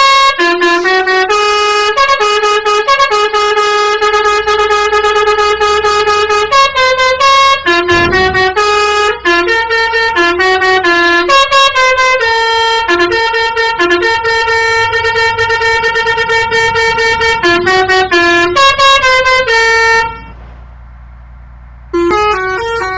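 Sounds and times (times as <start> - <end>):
musical bus air horn tune: 0.0 - 20.5, 21.9 - 22.9.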